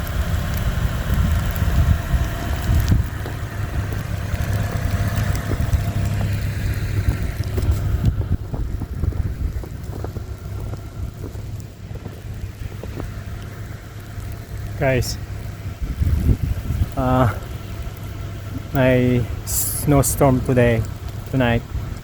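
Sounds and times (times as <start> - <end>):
car engine rumble from inside: 0.0 - 22.0.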